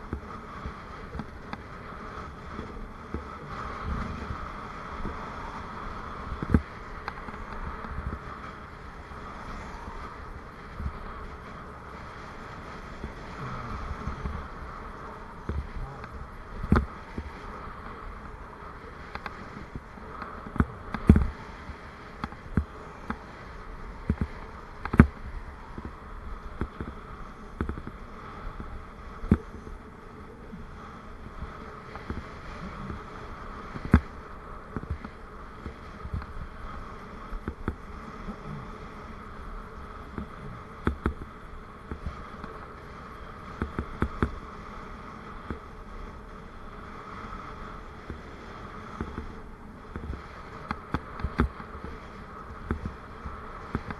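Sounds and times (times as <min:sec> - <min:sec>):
hum of tyres and wind: 0:00.0 - 0:53.9.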